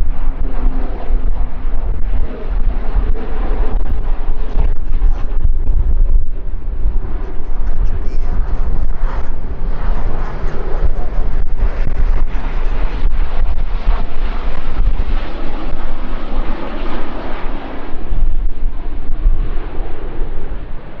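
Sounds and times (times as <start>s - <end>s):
heavy low rumble: 0.0s - 21.0s
turboprop aircraft engines droning: 0.0s - 21.0s.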